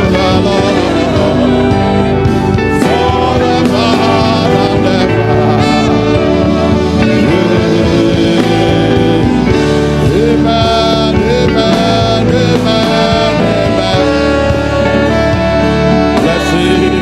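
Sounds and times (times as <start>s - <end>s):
person singing: 0.0s - 17.0s
sustained instrumental chords: 0.0s - 17.0s.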